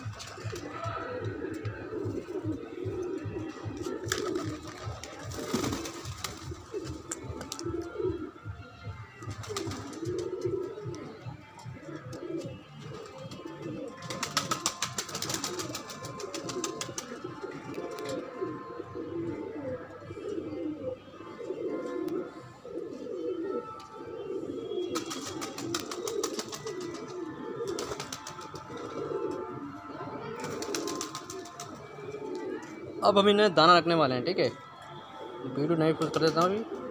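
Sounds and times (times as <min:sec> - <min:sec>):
pigeons cooing: 0:00.0 - 0:33.6, 0:34.5 - 0:36.9.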